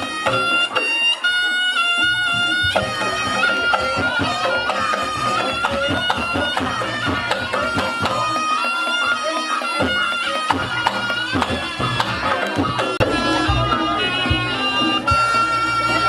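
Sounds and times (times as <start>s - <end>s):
drums: 0.0s - 16.0s
shrill shawm melody: 0.0s - 16.0s.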